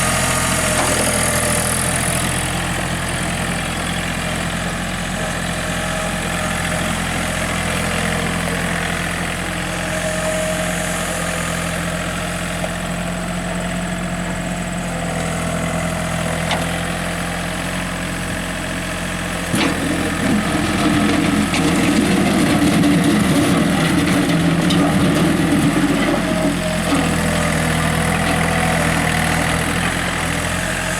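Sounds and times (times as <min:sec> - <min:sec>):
tractor diesel engine idling: 0:00.0 - 0:30.9.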